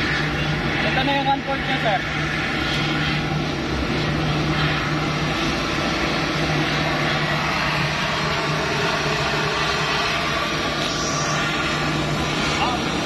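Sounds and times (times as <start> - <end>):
turboprop engine running: 0.0 - 13.0.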